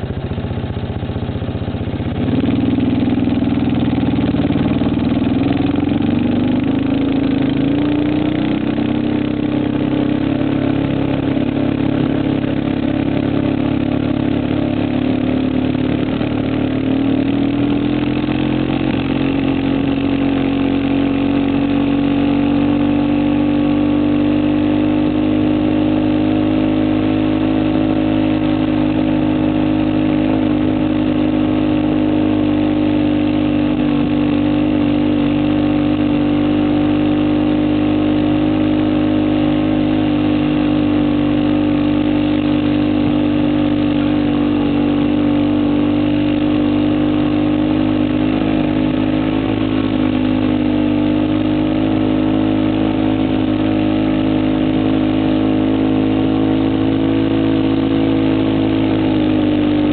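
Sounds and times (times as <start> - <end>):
vehicle engine under load: 0.0 - 59.9.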